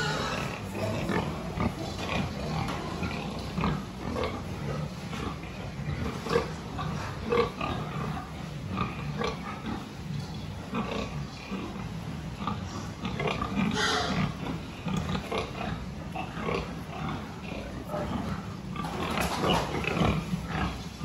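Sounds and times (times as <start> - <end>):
young pigs grunting: 0.0 - 21.0.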